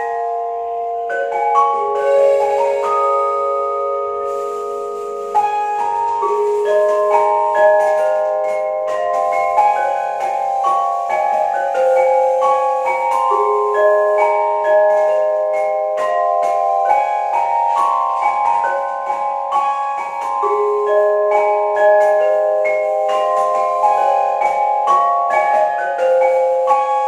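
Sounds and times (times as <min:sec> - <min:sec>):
vibraphone duet: 0:00.0 - 0:27.0.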